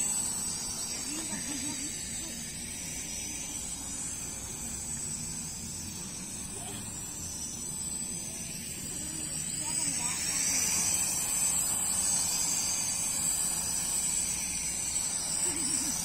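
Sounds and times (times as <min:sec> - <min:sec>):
toy drone buzzing: 0:00.0 - 0:16.0.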